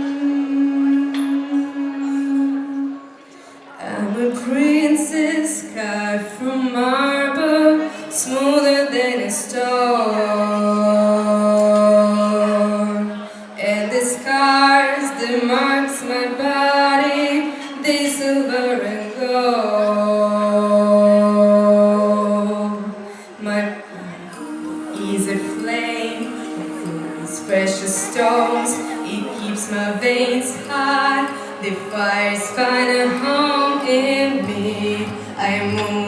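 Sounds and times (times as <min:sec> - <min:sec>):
wordless singing: 0:00.0 - 0:36.0.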